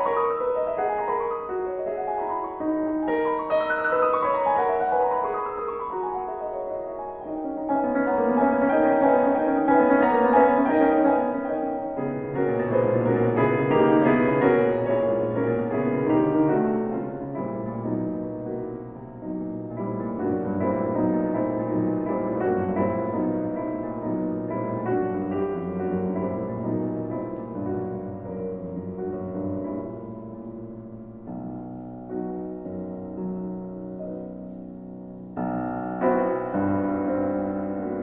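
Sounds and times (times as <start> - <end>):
slow solo piano piece: 0.0 - 38.0.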